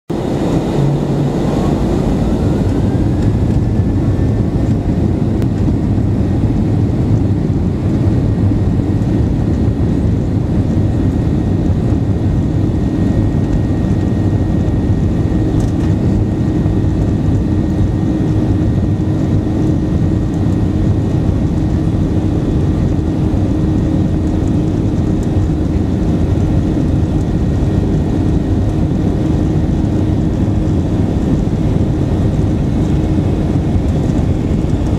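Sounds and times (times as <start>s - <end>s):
jet engine rumble: 0.1s - 34.9s
jet engine whine: 0.1s - 34.9s.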